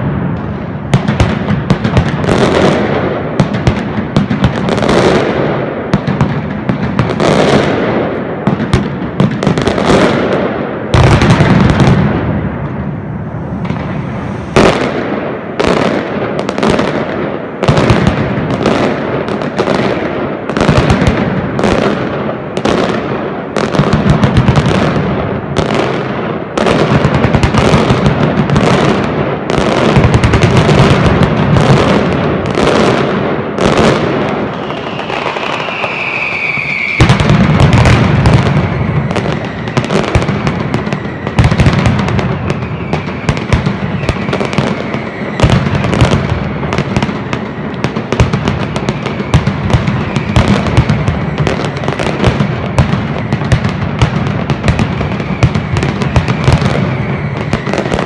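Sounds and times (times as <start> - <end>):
firecrackers exploding: 0.0 - 58.0.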